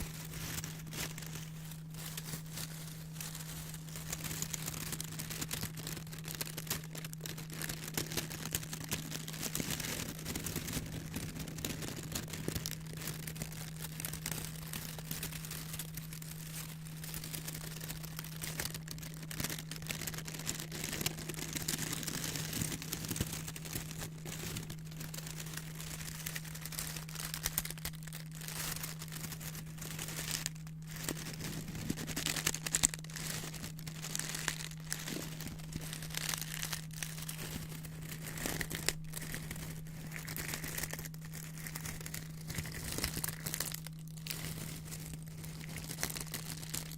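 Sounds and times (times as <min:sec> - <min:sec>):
paper crinkling: 0:00.0 - 0:46.9.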